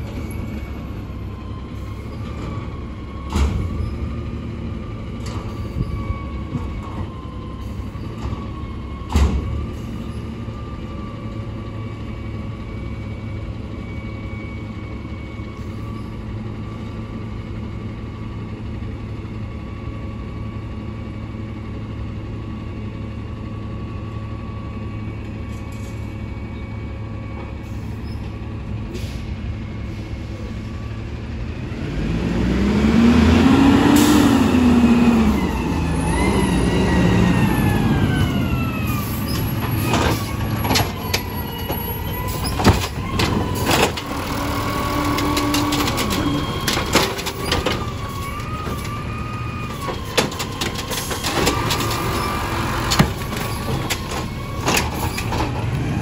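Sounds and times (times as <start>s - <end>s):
garbage truck engine with whine: 0.0s - 56.0s.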